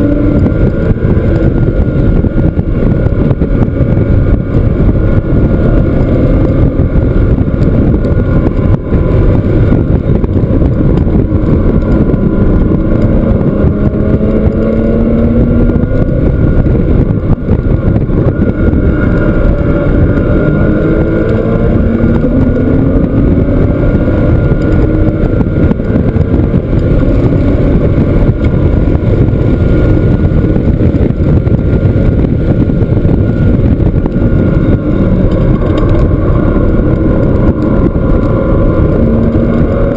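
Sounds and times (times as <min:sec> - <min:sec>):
car engine accelerating: 0:00.0 - 0:39.9
wind noise on microphone: 0:00.0 - 0:39.9.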